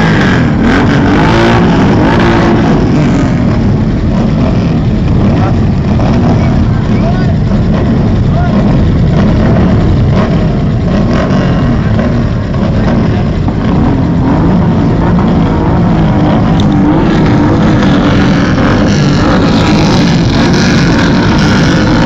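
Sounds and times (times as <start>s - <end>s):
motorcycle engines running: 0.0s - 22.0s.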